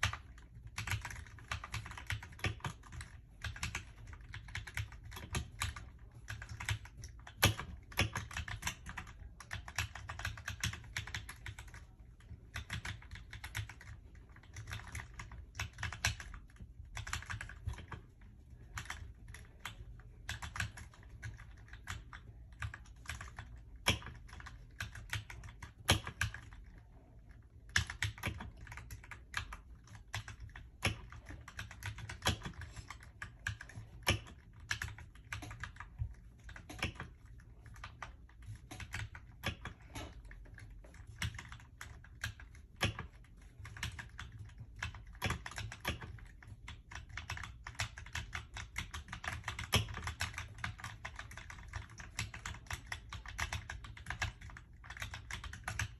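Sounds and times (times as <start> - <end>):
mechanical keyboard typing: 0.0 - 55.9.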